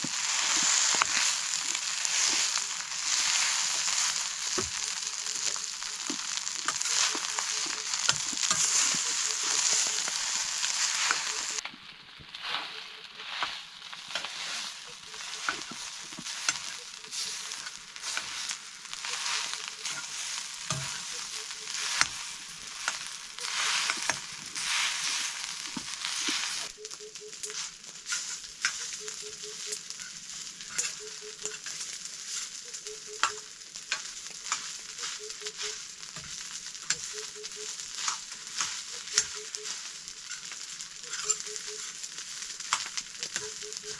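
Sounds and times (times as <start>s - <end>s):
spatula scraping and knocking pan: 0.0s - 11.6s, 12.3s - 26.7s, 30.6s - 43.9s
rice sizzling in a hot pan: 0.0s - 43.9s.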